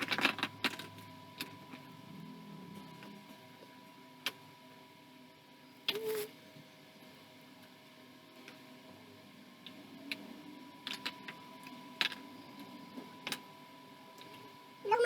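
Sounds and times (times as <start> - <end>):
faint steady tone: 0.6 - 15.0.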